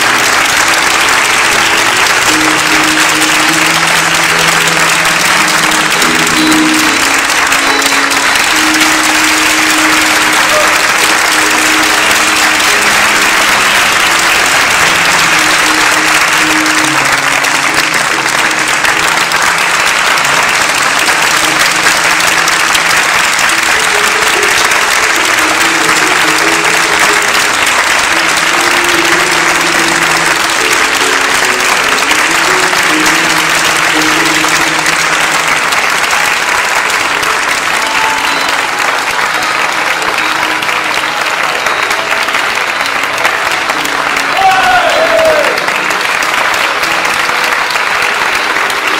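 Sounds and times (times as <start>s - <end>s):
audience applauding: 0.0s - 48.9s
simple melody music: 0.0s - 48.9s.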